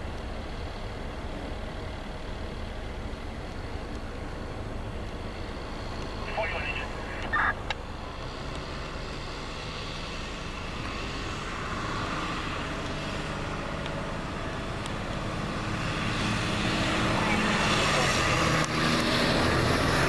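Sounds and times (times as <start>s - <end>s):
fire truck engine hum: 0.0s - 20.0s.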